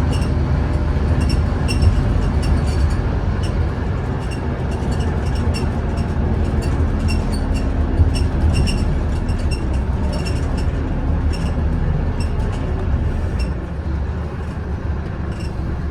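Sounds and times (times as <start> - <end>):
bus engine and road rumble: 0.0 - 15.9
bus interior rattles: 0.0 - 15.9.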